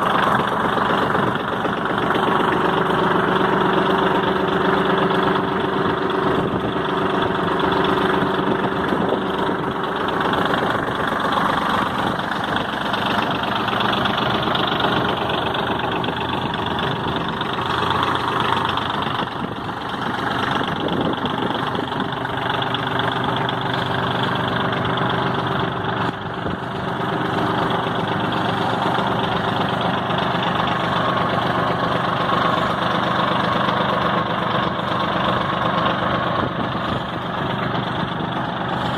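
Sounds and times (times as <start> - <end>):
tractor engine running steadily: 0.0 - 38.9.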